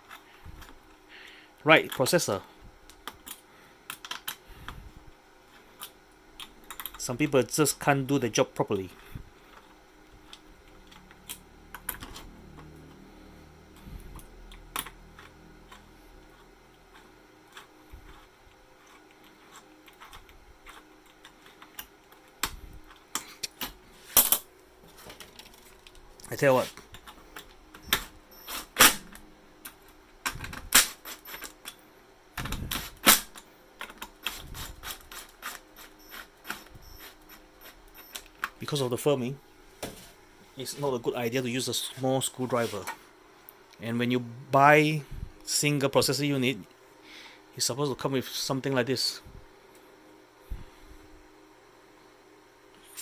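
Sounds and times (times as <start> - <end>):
faint steady low hum: 0.0 - 53.0.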